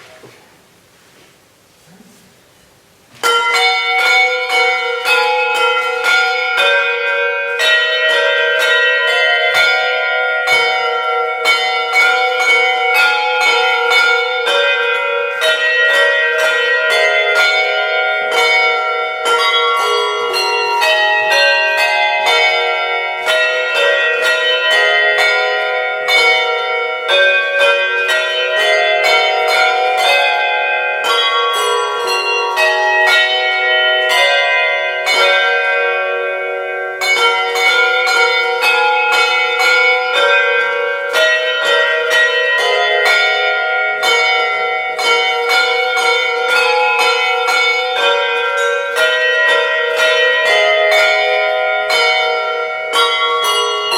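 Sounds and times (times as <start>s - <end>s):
handbells playing a carol: 3.2s - 53.9s.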